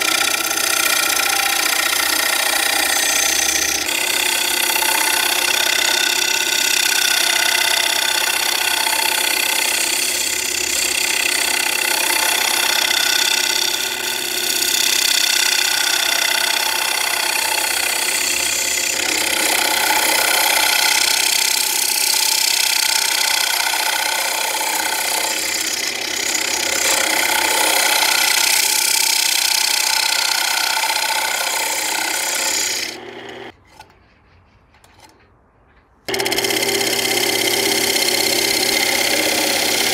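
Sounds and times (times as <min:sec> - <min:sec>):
lathe motor whine: 0:00.0 - 0:33.5, 0:36.1 - 0:39.9
lathe gouge scraping wood: 0:00.0 - 0:33.8, 0:36.1 - 0:39.9.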